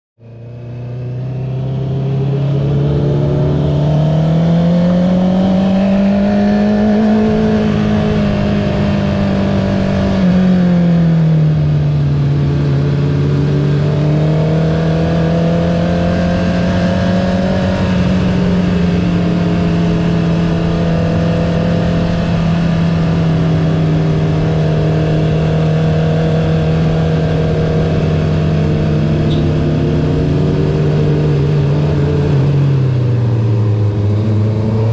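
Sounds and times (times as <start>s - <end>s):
motorcycle engine accelerating: 0.2s - 34.9s.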